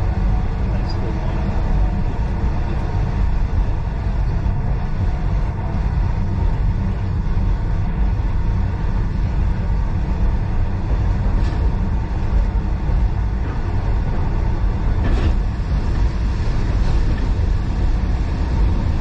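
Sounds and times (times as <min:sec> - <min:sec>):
train carriage rumbling on track: 0:00.0 - 0:19.0.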